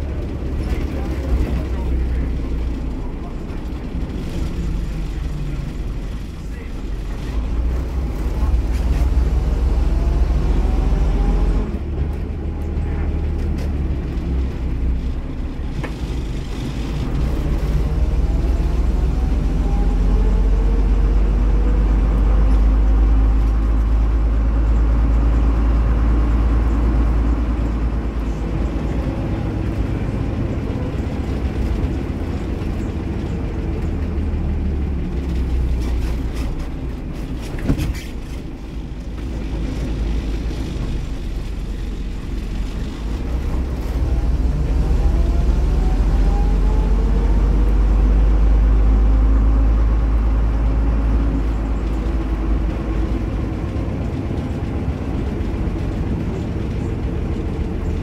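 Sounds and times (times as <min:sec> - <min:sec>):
bus diesel engine accelerating: 0:00.0 - 0:58.0.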